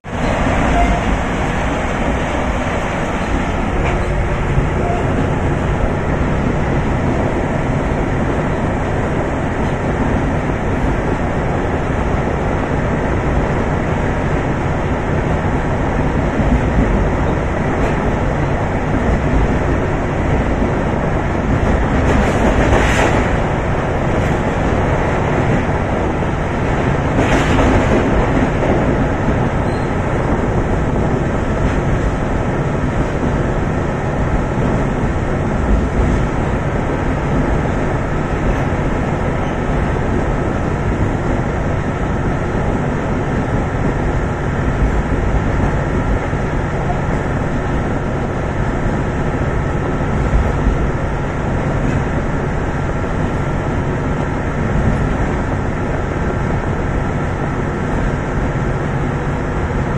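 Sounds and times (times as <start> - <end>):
diesel locomotive engine running: 0.0 - 59.9
train rushing over bridge: 0.0 - 59.9
train wheels on rails: 0.0 - 59.9
wind noise: 0.0 - 59.9.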